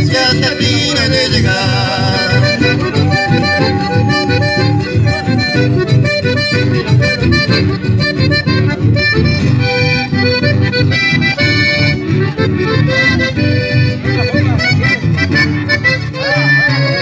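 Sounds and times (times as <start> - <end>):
accordion melody: 0.0 - 17.0
plucked double bass: 0.0 - 17.0
strummed guitars: 0.0 - 17.0.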